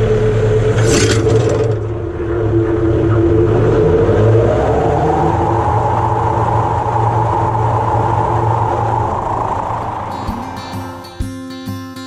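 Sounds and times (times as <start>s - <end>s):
mower blades whining: 0.0s - 12.0s
tractor engine hum: 0.0s - 12.0s.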